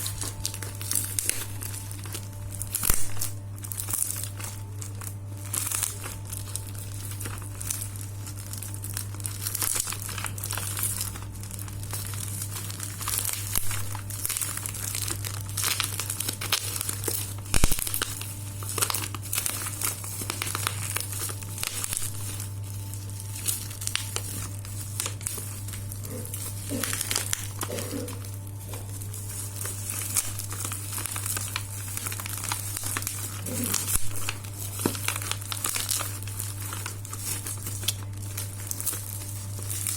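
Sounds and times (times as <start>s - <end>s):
packaging crinkling and tearing: 0.0s - 39.9s
steady low hum: 0.0s - 39.9s.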